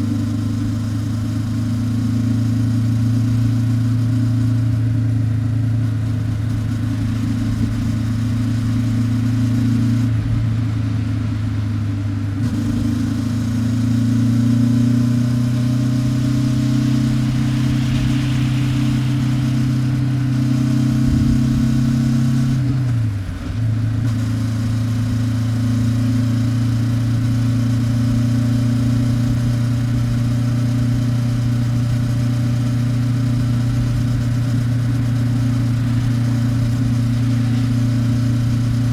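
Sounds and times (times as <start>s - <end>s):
motorcycle engine and exhaust cruising: 0.0s - 38.9s.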